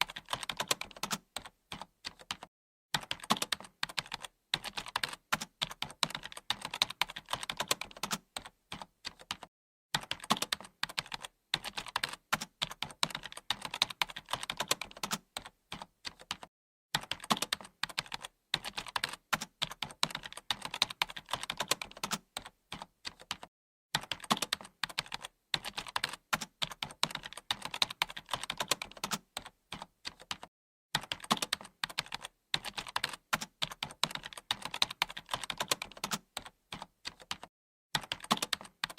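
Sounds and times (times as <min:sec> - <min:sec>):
typing on computer keyboard: 0:00.0 - 0:38.9.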